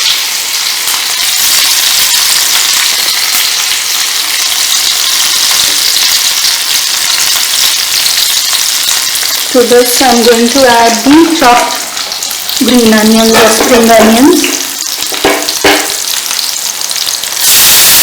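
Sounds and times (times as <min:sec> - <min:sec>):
chillies sizzling in hot oil: 0:00.0 - 0:18.0.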